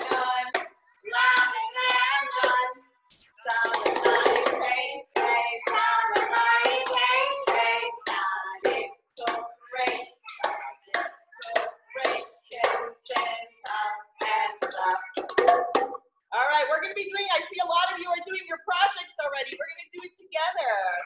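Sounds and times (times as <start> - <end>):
women singing children's song: 0.0 - 15.5, 16.4 - 21.0.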